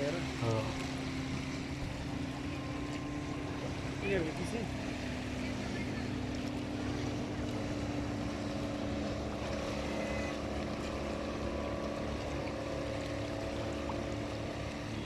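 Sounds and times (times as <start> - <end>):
boat engine humming: 0.0 - 15.0
rushing water: 0.0 - 15.0
wind: 0.0 - 15.0.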